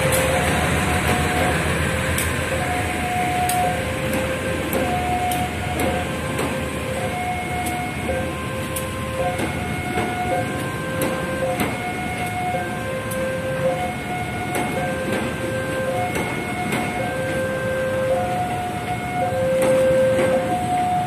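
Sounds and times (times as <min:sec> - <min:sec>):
level crossing two-tone alarm: 0:00.0 - 0:21.0
train rumbling past: 0:00.0 - 0:21.0
wheels clicking over rail joints: 0:00.0 - 0:21.0.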